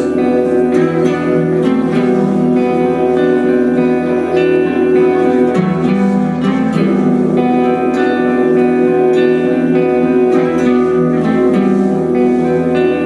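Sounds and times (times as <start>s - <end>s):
guitars playing ringing chords: 0.0s - 13.0s
live black metal band: 0.0s - 13.0s.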